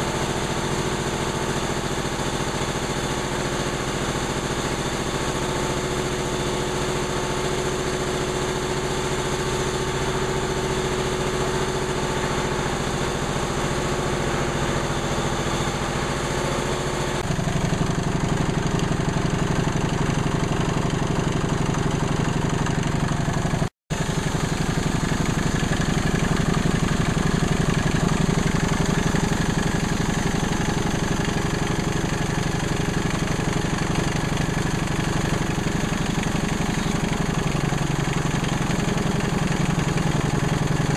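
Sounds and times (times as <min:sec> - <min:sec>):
diesel air compressor running: 0:00.0 - 0:40.9.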